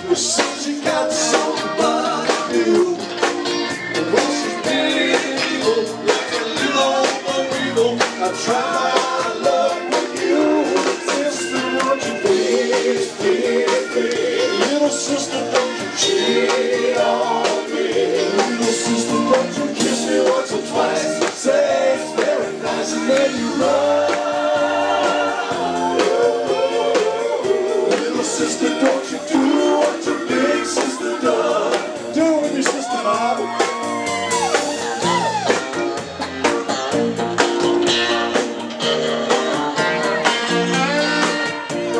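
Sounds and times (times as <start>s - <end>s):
man singing: 0.0s - 33.7s
drum kit beat: 0.0s - 41.9s
electric bass: 0.0s - 41.9s
electric guitars: 0.0s - 41.9s.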